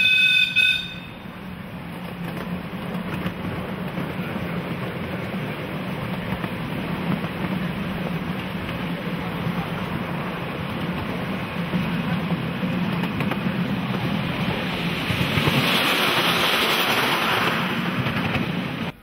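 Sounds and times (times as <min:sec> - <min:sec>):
miniature train wheels on rails: 0:01.8 - 0:18.9.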